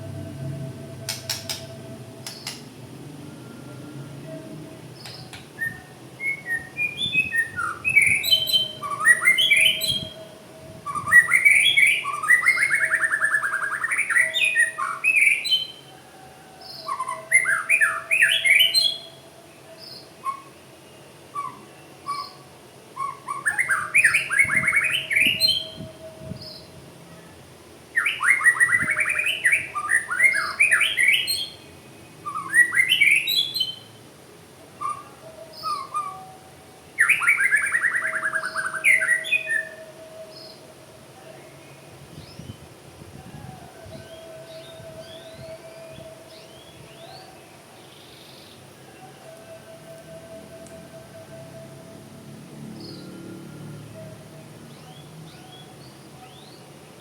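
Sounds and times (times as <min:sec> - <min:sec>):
songbird singing trills and whistles: 0:01.0 - 0:02.7, 0:03.5 - 0:34.0, 0:34.7 - 0:51.6, 0:52.8 - 0:57.0.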